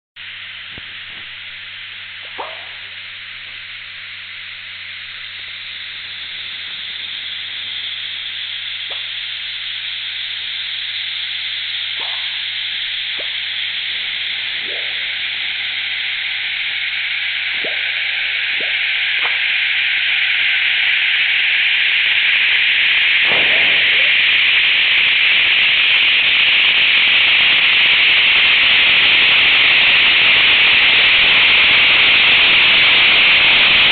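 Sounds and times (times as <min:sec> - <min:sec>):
faint steady hum tones: 0:00.2 - 0:33.9
hissing noise band: 0:00.2 - 0:33.9.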